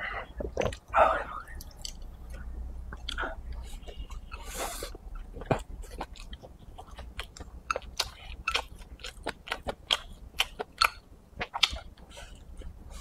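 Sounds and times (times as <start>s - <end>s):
person chewing food: 0.2s - 13.0s.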